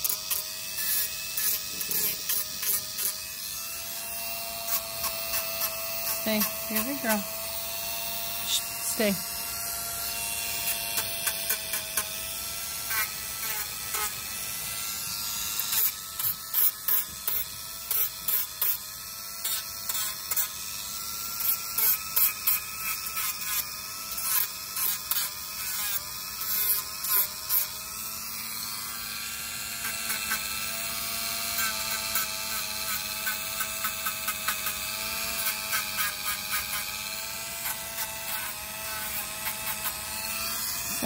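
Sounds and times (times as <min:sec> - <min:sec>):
grinding on toenail: 0:00.0 - 0:18.8, 0:19.4 - 0:41.0
rotary tool high whine: 0:00.0 - 0:41.0.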